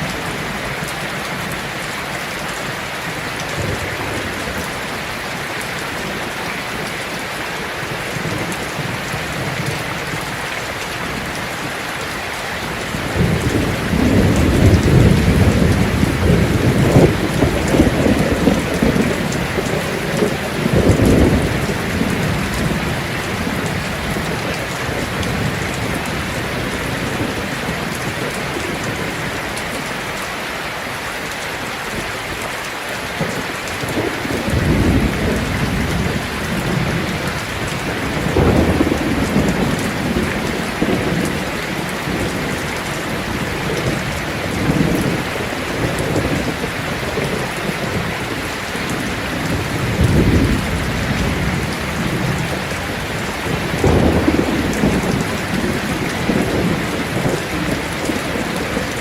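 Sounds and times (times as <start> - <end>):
heavy rain on a tin roof: 0.0 - 59.0
thunder rumbling: 7.8 - 29.9, 33.0 - 59.0.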